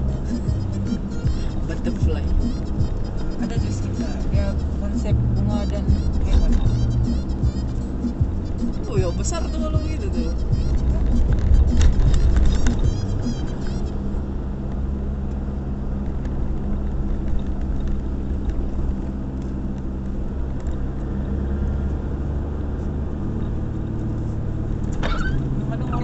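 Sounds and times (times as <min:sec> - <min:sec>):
car engine drone: 0:00.0 - 0:26.0
tyres on wet road: 0:00.0 - 0:26.0.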